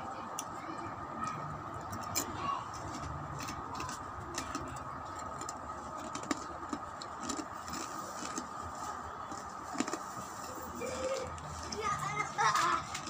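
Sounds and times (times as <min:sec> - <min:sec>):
crisp crackles of chewing: 0:01.2 - 0:13.0.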